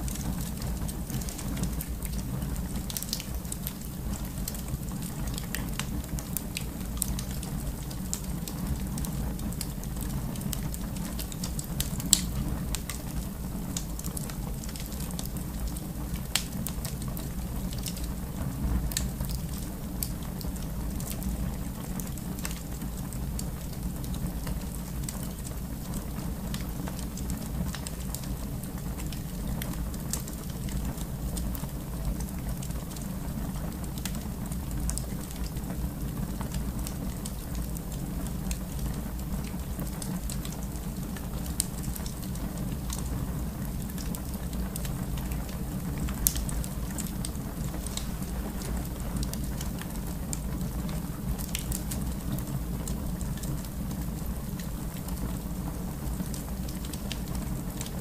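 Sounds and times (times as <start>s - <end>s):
fire popping: 0.0s - 58.0s
wood fire crackling: 0.0s - 58.0s.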